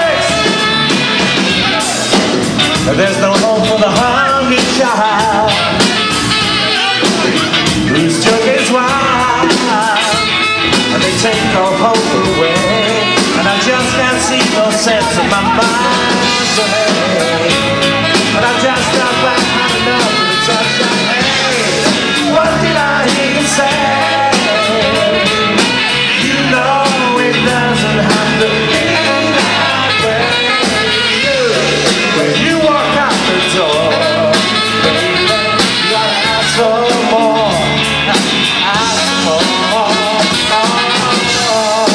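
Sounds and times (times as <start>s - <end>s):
drum beat: 0.0s - 41.9s
electric guitar: 0.0s - 41.9s
man singing: 0.0s - 41.9s.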